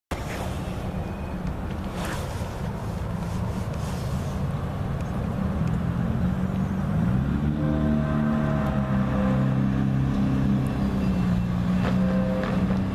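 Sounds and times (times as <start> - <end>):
diesel locomotive engine rumble: 0.1 - 12.9.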